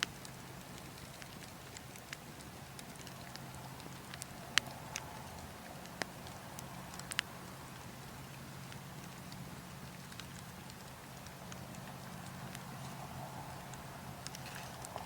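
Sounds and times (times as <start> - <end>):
burning logs crackling: 0.0 - 15.0
low wind rumble: 0.0 - 15.0.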